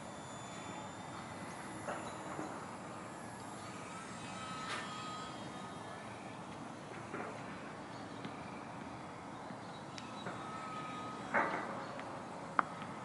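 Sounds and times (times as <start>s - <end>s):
model airplane motor whine: 0.0s - 13.0s
outdoor background hiss: 0.0s - 13.0s.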